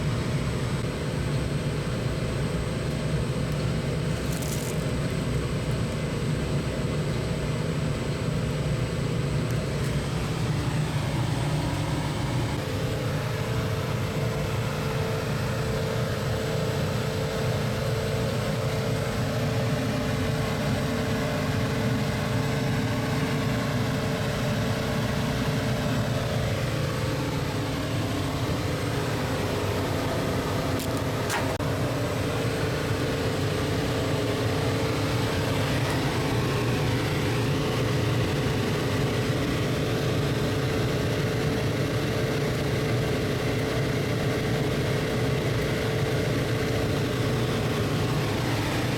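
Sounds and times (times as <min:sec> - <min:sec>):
air conditioner humming: 0:00.0 - 0:48.9.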